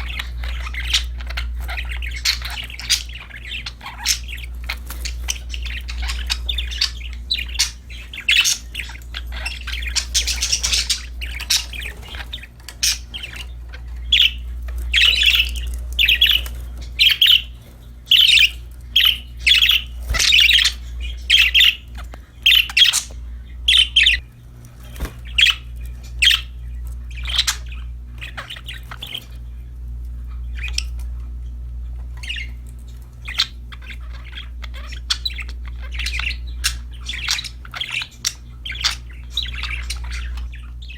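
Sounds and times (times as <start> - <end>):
budgerigars chirping and squawking: 0.0 - 40.9
steady low hum: 0.0 - 40.9.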